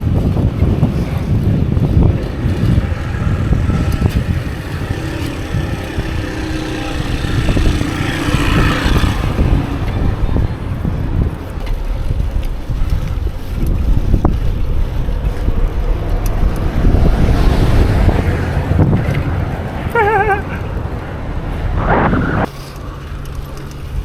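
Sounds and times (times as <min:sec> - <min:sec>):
road noise: 0:00.0 - 0:24.0
vehicle engine hum: 0:00.0 - 0:24.0
wind buffeting microphone: 0:00.0 - 0:24.0.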